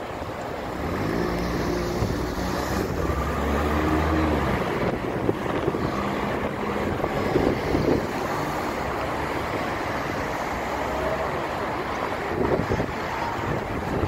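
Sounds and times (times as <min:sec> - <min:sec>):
traffic hiss: 0:00.0 - 0:14.0
wind noise on microphone: 0:00.0 - 0:14.0
car driving past: 0:00.7 - 0:14.0.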